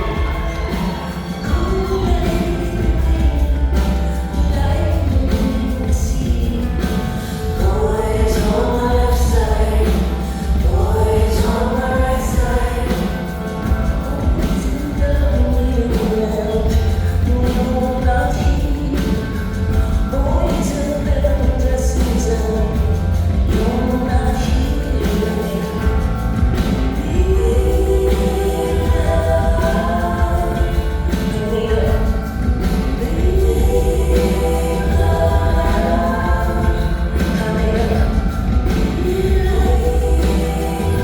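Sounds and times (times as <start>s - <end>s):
sustained bass line: 0.0s - 41.0s
woman singing: 0.0s - 41.0s.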